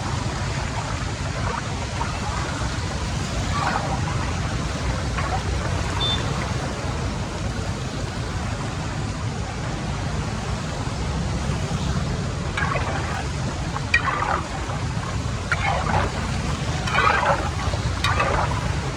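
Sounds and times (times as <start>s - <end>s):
floodwater rushing into drain: 0.0s - 7.8s, 11.3s - 18.9s.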